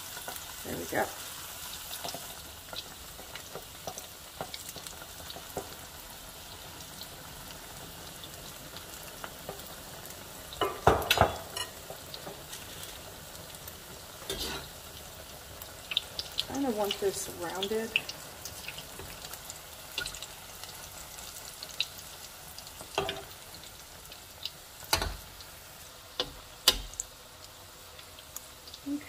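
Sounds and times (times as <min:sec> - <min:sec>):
egg deep-frying in hot oil: 0:00.0 - 0:29.0.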